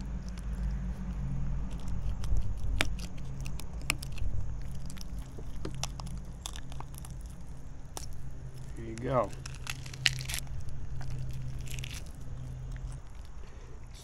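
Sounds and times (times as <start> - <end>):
bone cracking: 0.0 - 13.6
low steady hum: 0.0 - 14.0.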